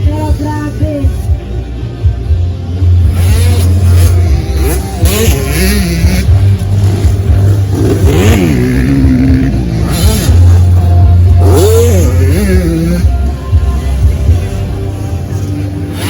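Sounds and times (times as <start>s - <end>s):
dirt bike engines revving: 0.0s - 16.0s
steady low drone: 0.0s - 16.0s.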